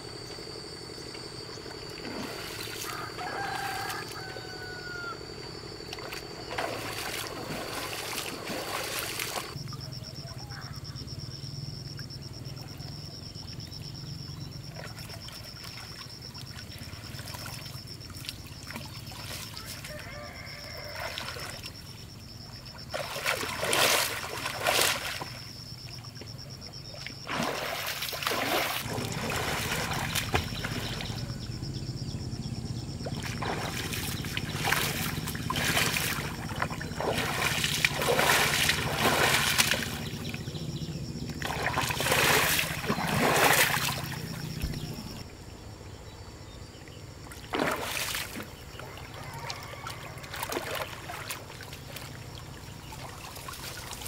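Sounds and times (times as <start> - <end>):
water splashing and sloshing: 0.0 - 9.8, 14.5 - 31.7, 32.8 - 45.5, 46.8 - 54.0.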